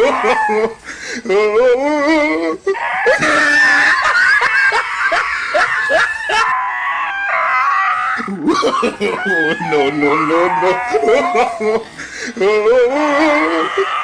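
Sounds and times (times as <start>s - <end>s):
dog screaming and yelping: 0.0s - 0.8s, 2.7s - 12.2s, 12.8s - 14.0s.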